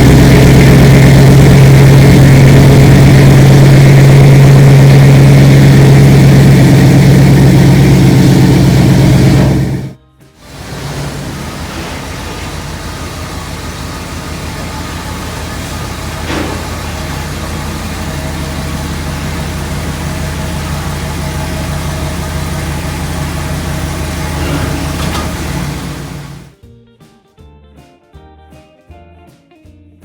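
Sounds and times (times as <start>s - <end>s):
pickup truck engine running: 0.0s - 26.6s.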